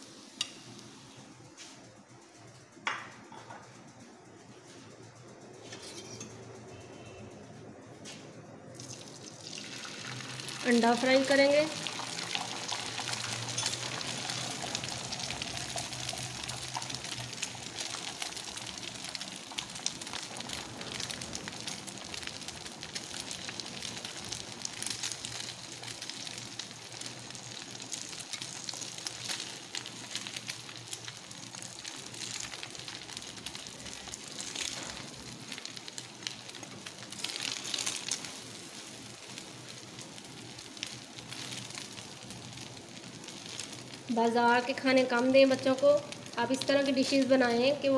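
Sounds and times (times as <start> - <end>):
egg sizzling in oil: 8.8 - 47.6.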